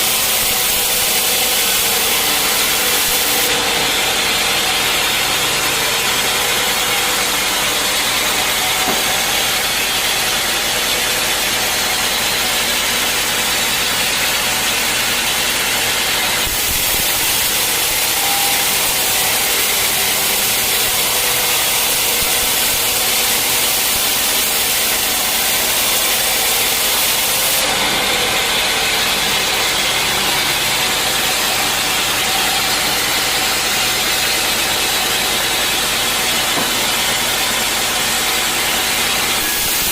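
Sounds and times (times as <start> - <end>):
sawmill running: 0.0 - 39.9.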